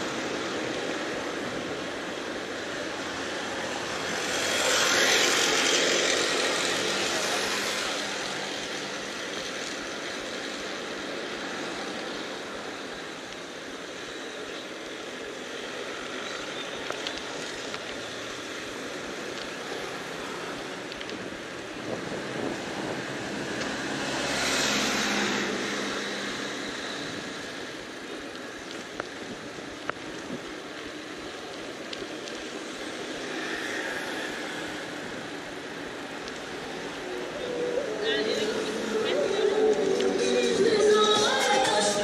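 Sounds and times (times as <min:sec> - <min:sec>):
traffic hum: 0:00.0 - 0:42.0.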